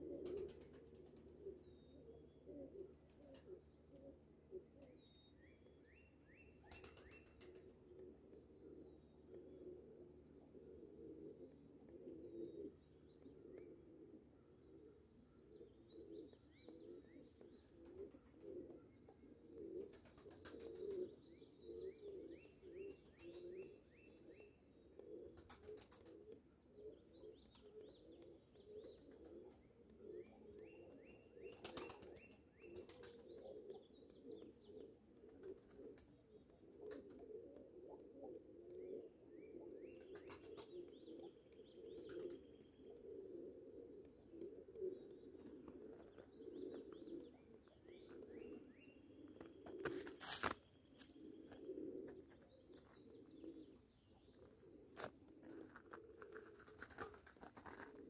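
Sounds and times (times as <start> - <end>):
small birds chirping: 0.2 - 58.0.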